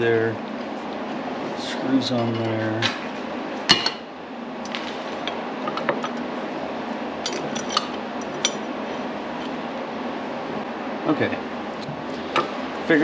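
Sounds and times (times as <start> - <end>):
steady shop hum: 0.0 - 13.0.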